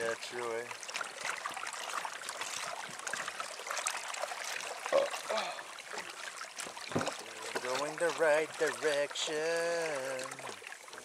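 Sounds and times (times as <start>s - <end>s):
water splashing against boat hull: 0.0s - 11.0s.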